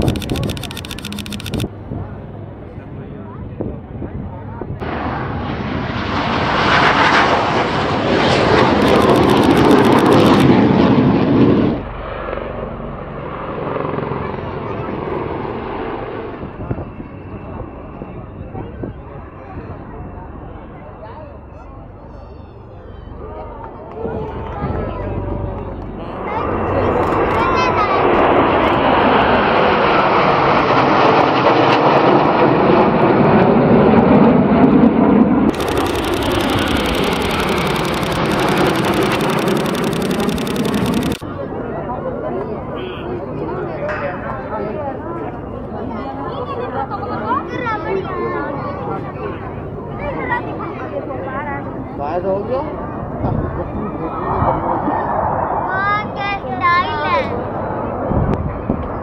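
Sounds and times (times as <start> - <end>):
military aircraft engine roar: 0.0 - 59.0.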